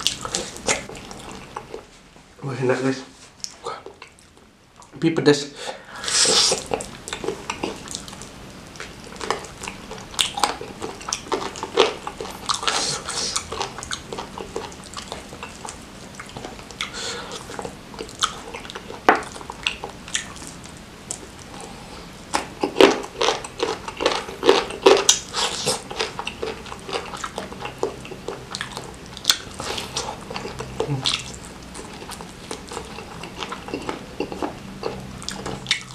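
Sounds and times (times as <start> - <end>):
person chewing and lip-smacking: 0.0 - 1.8, 6.0 - 35.9.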